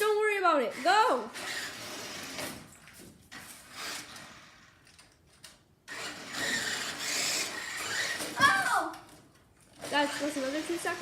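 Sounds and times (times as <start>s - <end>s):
toy car electric motor whirring: 0.7s - 2.7s, 3.3s - 11.0s.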